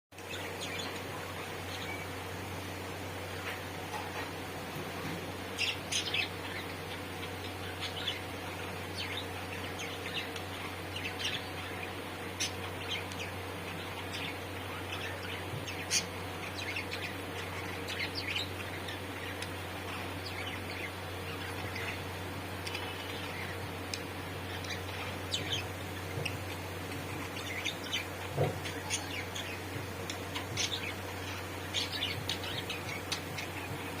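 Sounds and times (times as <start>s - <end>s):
steady low hum: 0.1s - 34.0s
budgerigars chirping: 5.6s - 34.0s.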